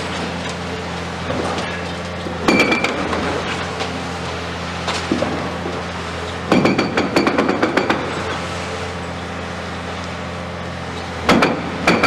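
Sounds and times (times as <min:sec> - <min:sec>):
diesel engine hum: 0:00.0 - 0:12.0.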